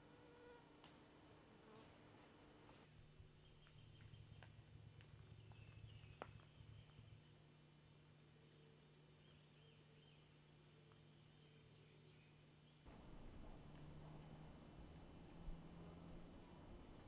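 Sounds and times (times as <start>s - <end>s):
soft bird chirps: 2.9s - 17.0s.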